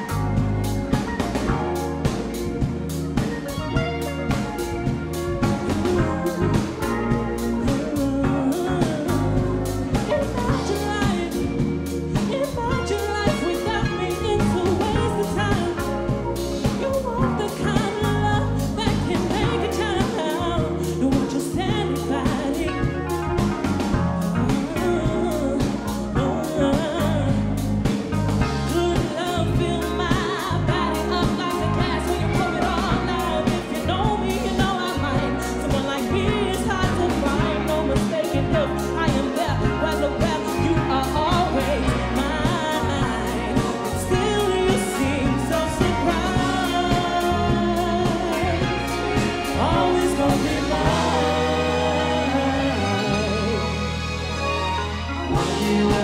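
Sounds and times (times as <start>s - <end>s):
live band music: 0.0s - 56.0s
woman singing: 5.4s - 54.0s, 55.3s - 56.0s.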